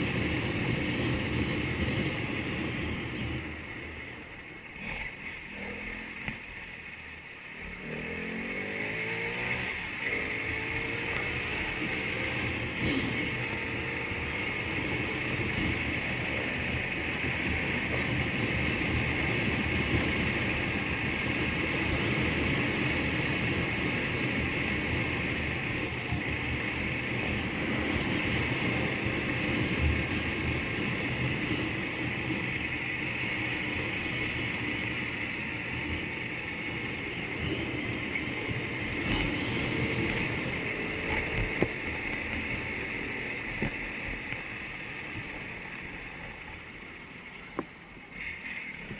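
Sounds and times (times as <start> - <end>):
vehicle wind and road noise: 0.0 - 48.9.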